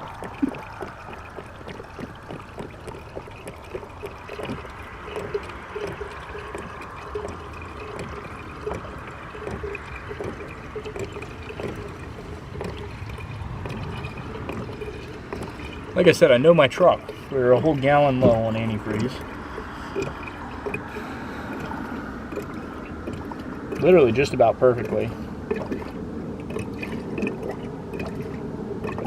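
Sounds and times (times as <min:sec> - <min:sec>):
liquid pouring from a jug: 0:00.0 - 0:29.0.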